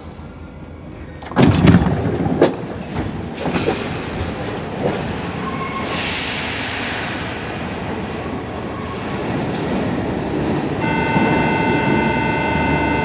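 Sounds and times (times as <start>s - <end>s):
train steady noise: 0.0s - 1.4s, 2.2s - 13.0s
train doors clattering open: 0.0s - 13.0s.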